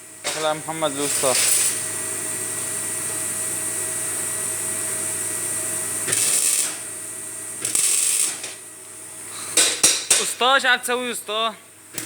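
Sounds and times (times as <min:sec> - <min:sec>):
workshop machine humming: 0:00.0 - 0:12.0.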